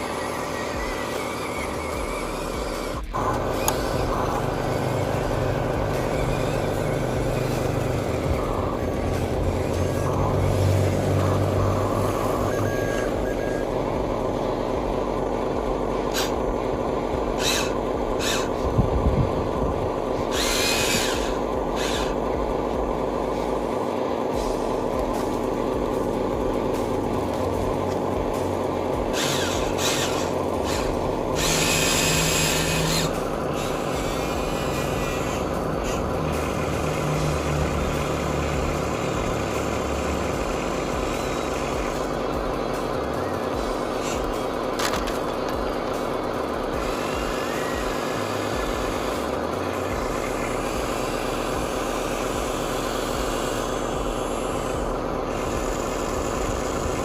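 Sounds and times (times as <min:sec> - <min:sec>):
model vehicle motors humming: 0:00.0 - 0:57.0.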